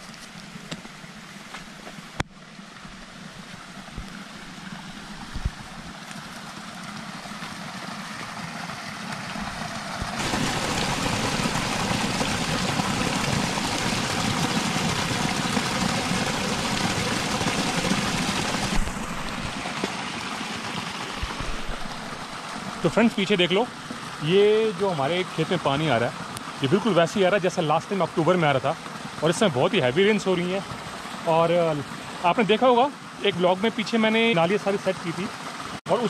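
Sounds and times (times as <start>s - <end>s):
water rushing into a pool: 2.4s - 36.0s.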